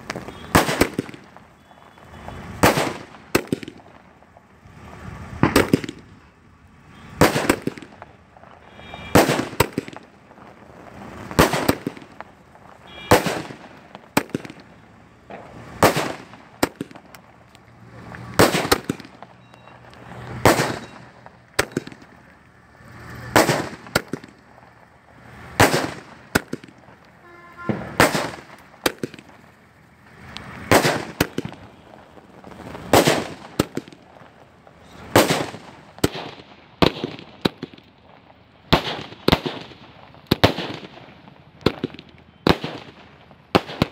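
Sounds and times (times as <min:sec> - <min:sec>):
firework bangs: 0:00.0 - 0:43.9
firework pops and crackles: 0:00.0 - 0:43.9.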